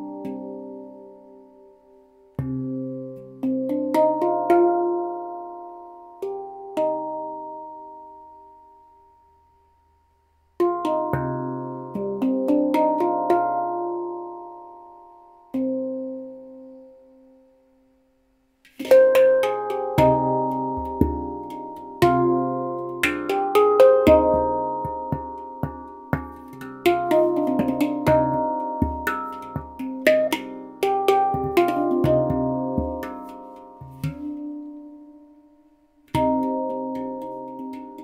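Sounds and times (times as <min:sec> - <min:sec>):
handpan played with fingers: 0:00.0 - 0:08.9, 0:10.6 - 0:16.9, 0:18.7 - 0:38.0.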